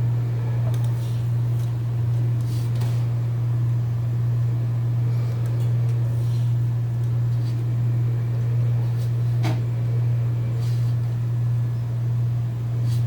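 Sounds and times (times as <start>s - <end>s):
fan motor humming: 0.0s - 13.0s.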